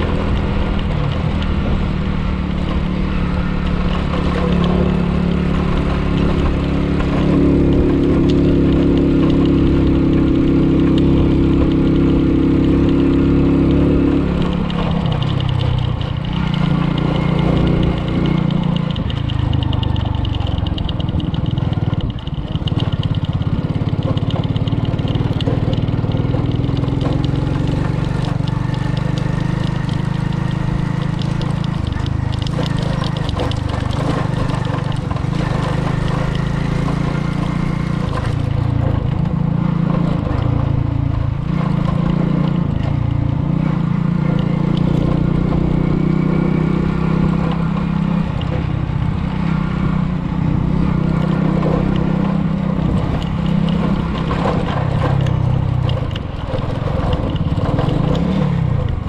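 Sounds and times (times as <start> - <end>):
car engine running: 0.0 - 46.2, 47.2 - 59.0
road noise: 0.0 - 59.0.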